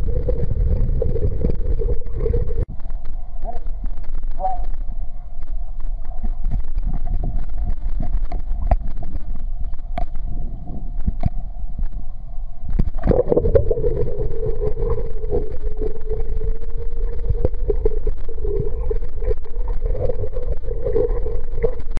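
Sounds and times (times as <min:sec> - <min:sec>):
muffled underwater rumble: 0:00.0 - 0:22.0
steady tone with bubbling: 0:00.0 - 0:22.0.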